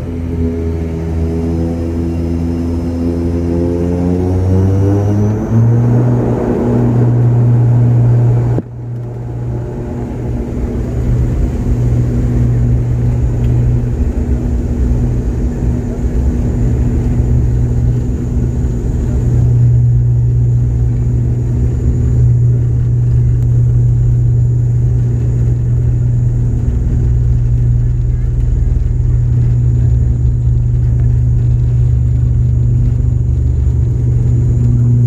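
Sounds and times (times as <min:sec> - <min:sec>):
turboprop engines droning in cabin: 0:00.0 - 0:35.0.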